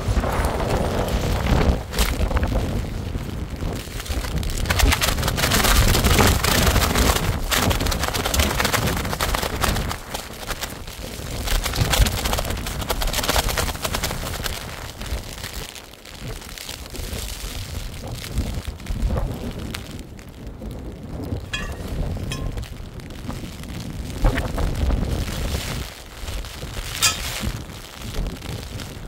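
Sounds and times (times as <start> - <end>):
wind gusts buffeting microphone: 0.0 - 29.0.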